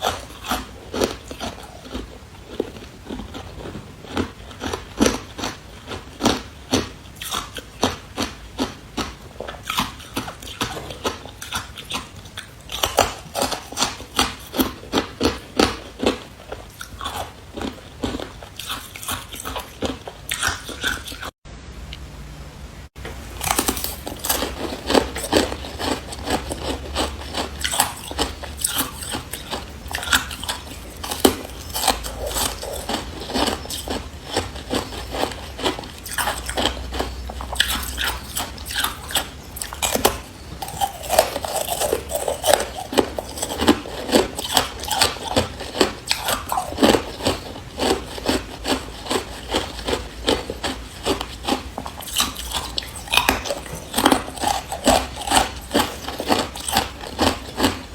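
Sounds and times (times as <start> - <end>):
ice being chewed: 0.0 - 21.4, 23.3 - 57.9.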